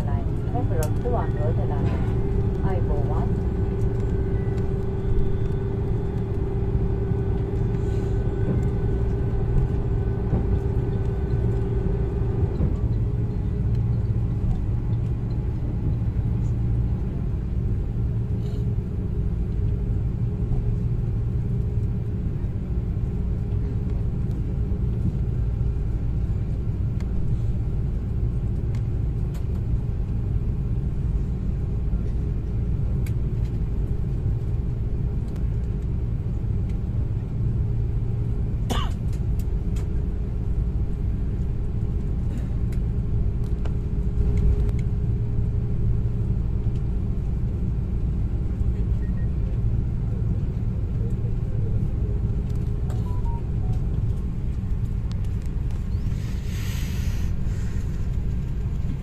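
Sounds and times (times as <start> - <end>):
jet engine whine: 0.0 - 59.0
jet engines rumbling: 0.0 - 59.0.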